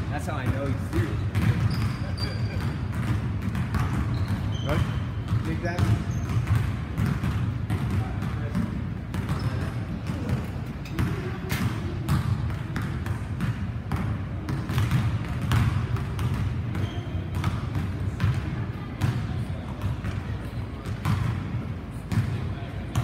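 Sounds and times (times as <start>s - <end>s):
basketballs bouncing on wooden floor: 0.0s - 23.0s.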